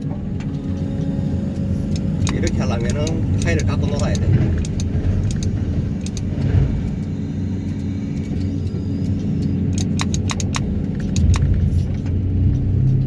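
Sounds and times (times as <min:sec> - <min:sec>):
excavator engine and hydraulics: 0:00.0 - 0:13.0
sharp clicks: 0:00.4 - 0:13.0.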